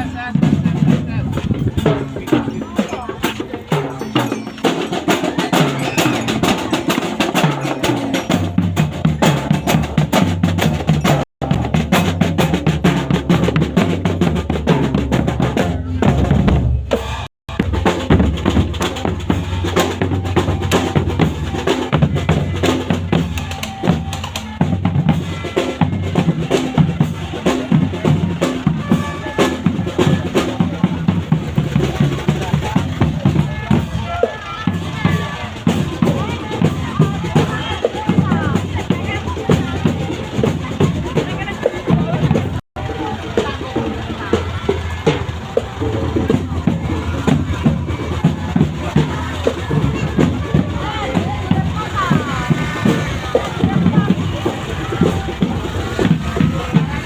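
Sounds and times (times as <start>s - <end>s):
drum-driven procession music: 0.0s - 57.0s.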